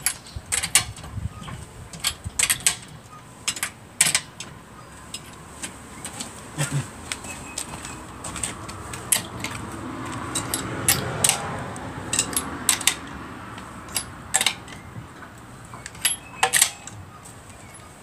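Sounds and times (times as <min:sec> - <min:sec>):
hand tools clinking on wheel nuts: 0:00.0 - 0:18.0.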